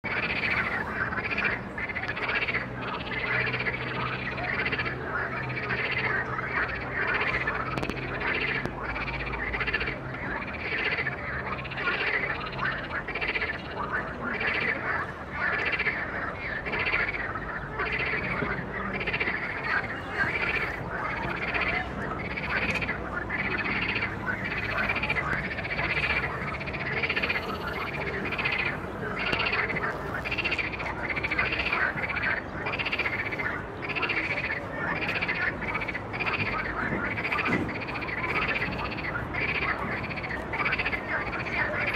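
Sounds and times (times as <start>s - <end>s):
frogs croaking in chorus: 0.0s - 41.9s.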